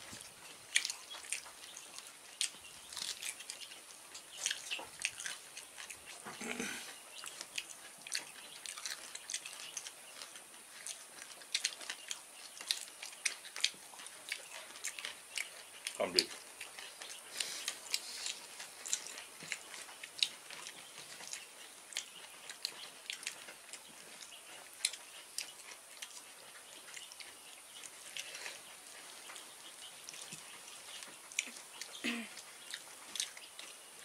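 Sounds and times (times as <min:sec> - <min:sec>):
chewing clicks and smacks: 0:00.1 - 0:34.0.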